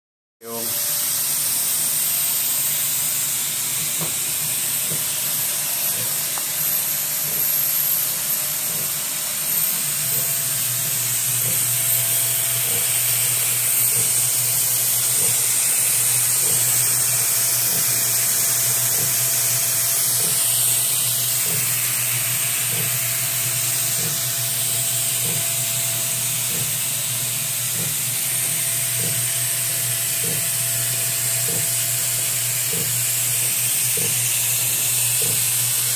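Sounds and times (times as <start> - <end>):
vacuum cleaner hiss and hum: 0.4 - 35.9.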